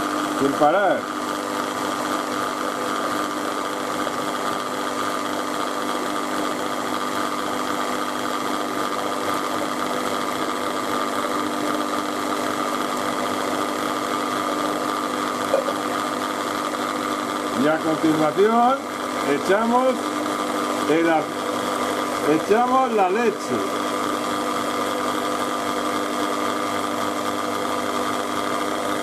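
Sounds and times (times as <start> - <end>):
electric mixer whisking batter: 0.0 - 29.0.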